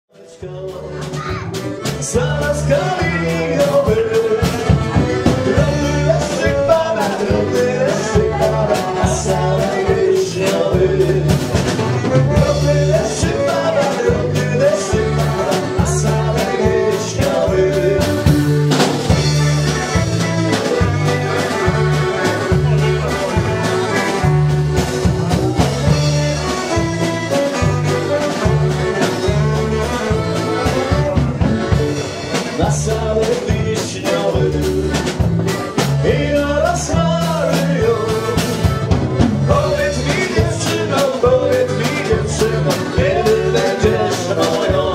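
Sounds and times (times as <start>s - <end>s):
guitar: 0.1s - 44.9s
person singing: 0.1s - 44.9s
drum and bass beat: 0.4s - 44.9s.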